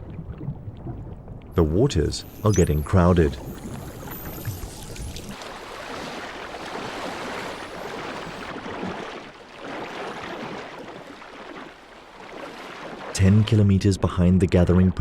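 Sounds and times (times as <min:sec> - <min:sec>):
seawater rushing: 0:01.6 - 0:13.8.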